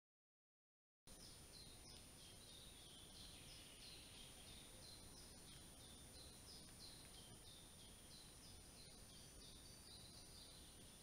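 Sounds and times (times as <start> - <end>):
bird chirping: 1.1 - 11.0
steady hiss: 1.1 - 11.0.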